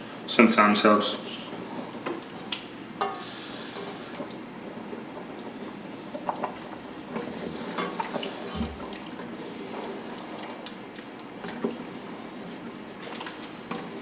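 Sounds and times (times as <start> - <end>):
gravy bubbling in a pot: 1.5 - 14.0.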